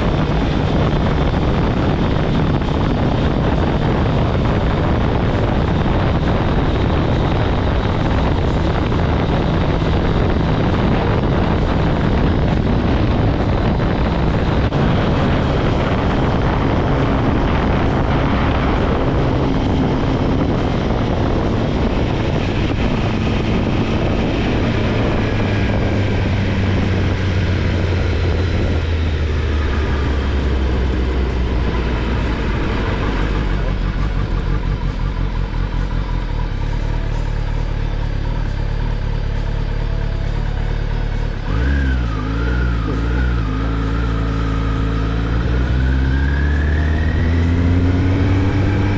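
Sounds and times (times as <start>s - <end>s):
wind rushing over microphone: 0.0s - 35.9s, 41.4s - 48.9s
motorcycle engine running: 0.0s - 48.9s.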